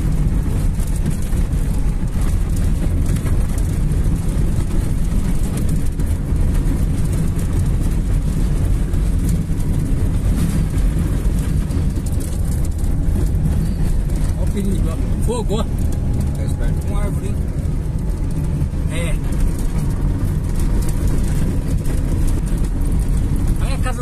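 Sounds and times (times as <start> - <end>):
car engine rumble: 0.0 - 24.0
tyres on dirt road: 0.0 - 24.0
wind buffeting car: 0.0 - 24.0.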